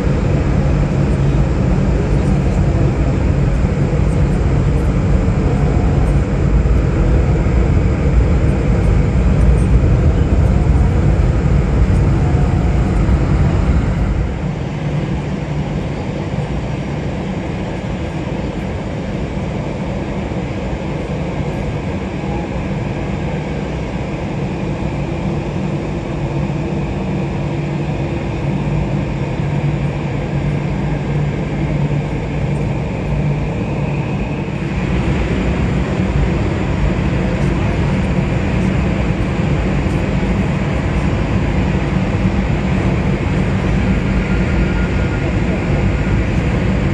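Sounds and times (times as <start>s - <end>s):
faint steady whine: 0.0s - 46.9s
jet engines running: 0.0s - 46.9s.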